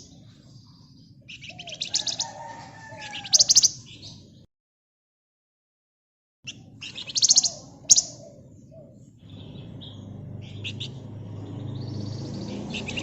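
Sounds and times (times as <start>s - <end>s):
bird trilling and chirping: 0.0s - 4.3s, 6.5s - 13.0s.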